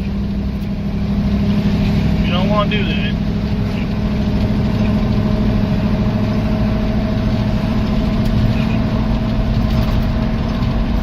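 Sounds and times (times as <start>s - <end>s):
pickup engine running: 0.0s - 11.0s.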